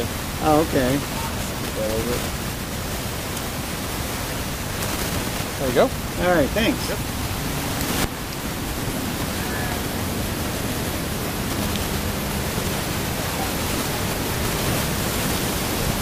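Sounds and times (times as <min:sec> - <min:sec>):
ventilation fans whooshing: 0:00.0 - 0:16.0.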